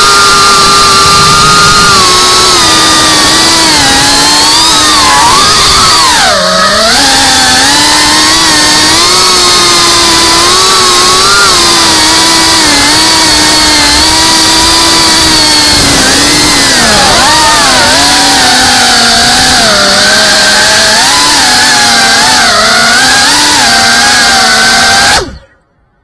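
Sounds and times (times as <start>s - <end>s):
drone propeller whine: 0.0s - 26.0s.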